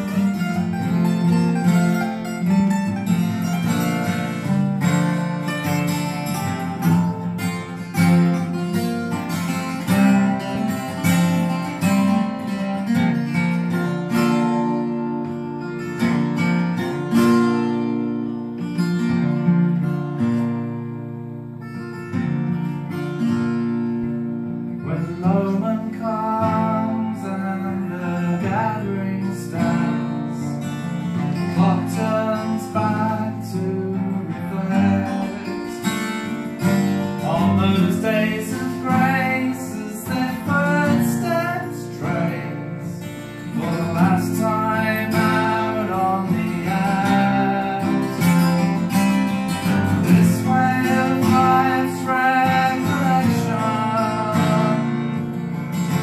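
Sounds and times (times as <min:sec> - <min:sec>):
acoustic guitars playing folk music: 0:00.0 - 0:56.0.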